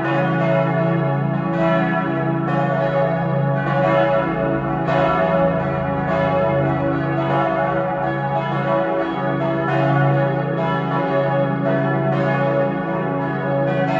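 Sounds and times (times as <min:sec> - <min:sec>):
church bells pealing: 0:00.0 - 0:13.9.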